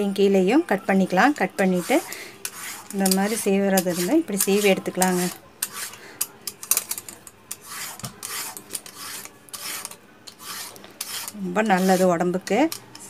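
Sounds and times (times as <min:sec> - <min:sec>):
peeler scraping gourd skin: 0:01.6 - 0:06.6, 0:07.5 - 0:13.0.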